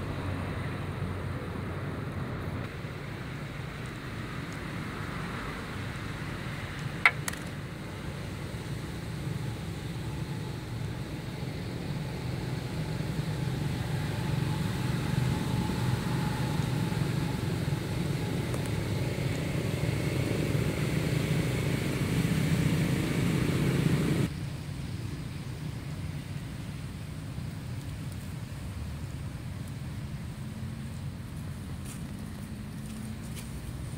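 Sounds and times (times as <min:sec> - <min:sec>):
motor vehicle rumbling: 0:00.0 - 0:33.9.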